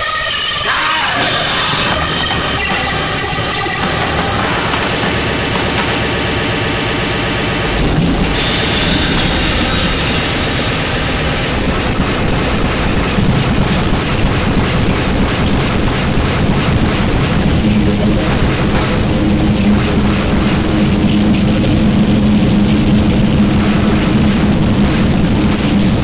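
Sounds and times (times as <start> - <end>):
distorted static noise music: 0.0 - 26.0
low droning hum: 1.2 - 26.0
low rumble: 1.2 - 26.0.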